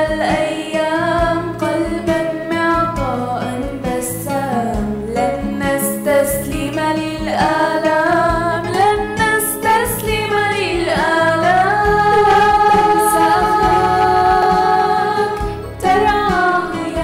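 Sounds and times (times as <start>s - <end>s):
backing music: 0.0s - 17.0s
woman singing: 0.0s - 17.0s.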